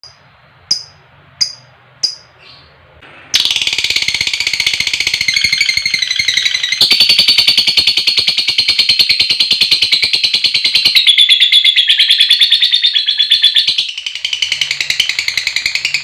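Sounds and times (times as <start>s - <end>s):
lovebird chirps and chattering trill: 0.0s - 2.7s, 3.4s - 16.0s.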